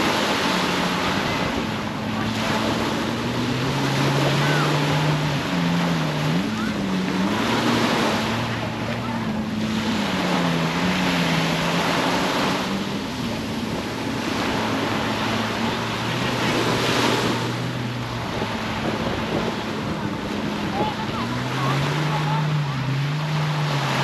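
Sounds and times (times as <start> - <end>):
motorboat engine droning: 0.0 - 24.0
surf washing onto beach: 0.0 - 24.0.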